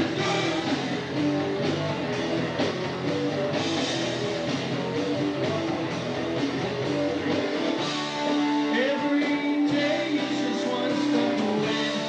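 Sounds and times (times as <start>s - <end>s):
bass guitar: 0.0s - 12.0s
drum kit: 0.0s - 12.0s
electric guitars: 0.0s - 12.0s.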